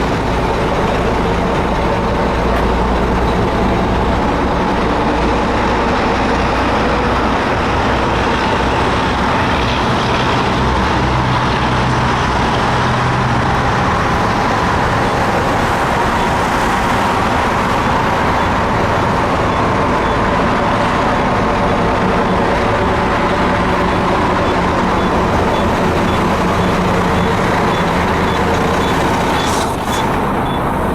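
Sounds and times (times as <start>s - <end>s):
diesel truck engine running: 0.0s - 30.9s.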